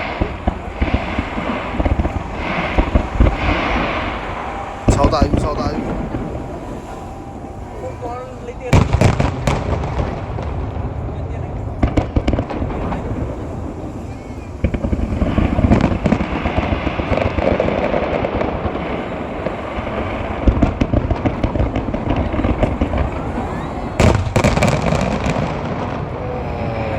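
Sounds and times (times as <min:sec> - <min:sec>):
crowd murmur: 0:00.0 - 0:26.9
fireworks booming: 0:00.0 - 0:26.9.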